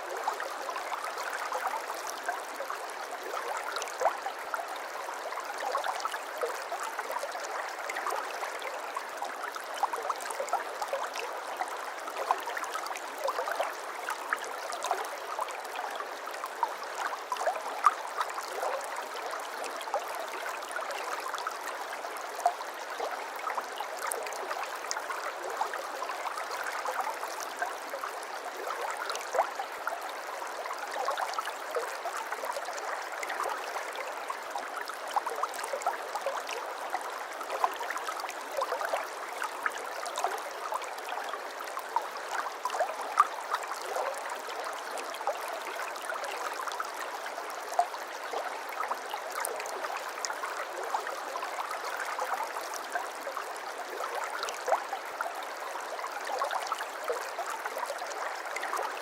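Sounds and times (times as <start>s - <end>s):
babbling stream: 0.0s - 59.0s.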